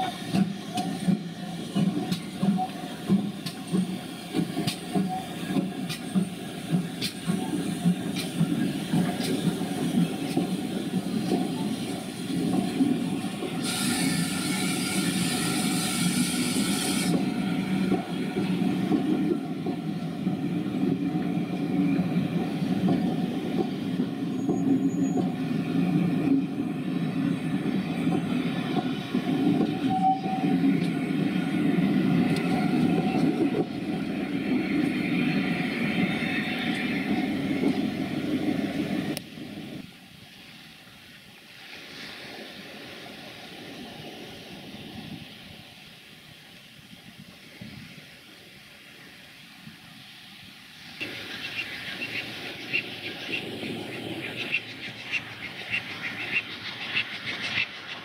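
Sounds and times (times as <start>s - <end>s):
steam hiss: 0.0s - 58.0s
train wheels rumbling on rails: 0.0s - 58.0s.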